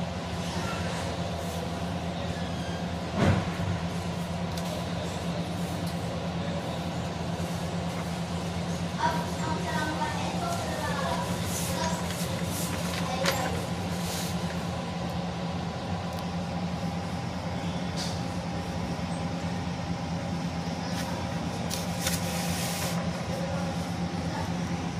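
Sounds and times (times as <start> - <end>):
steady background hum: 0.0 - 24.9.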